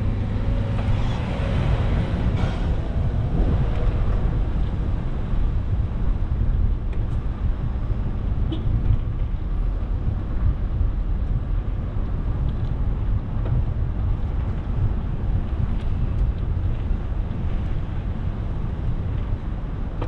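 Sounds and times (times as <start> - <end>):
car traffic road noise: 0.0 - 20.0
wind buffeting microphone: 0.0 - 20.0.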